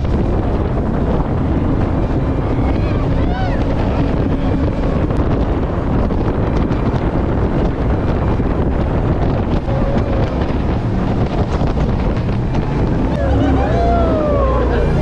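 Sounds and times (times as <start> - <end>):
boat engine: 0.0 - 15.0
wind buffeting microphone: 0.0 - 15.0.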